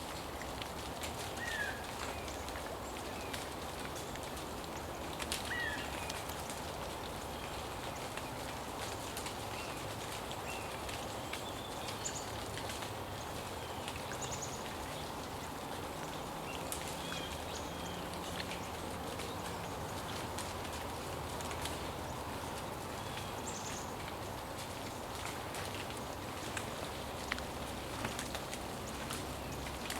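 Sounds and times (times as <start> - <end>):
river water flowing: 0.0 - 29.9.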